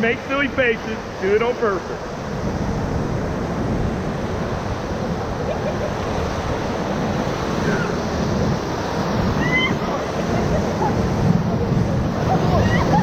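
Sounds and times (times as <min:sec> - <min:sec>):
whitewater rushing: 0:00.0 - 0:13.0
wind on microphone: 0:00.0 - 0:13.0.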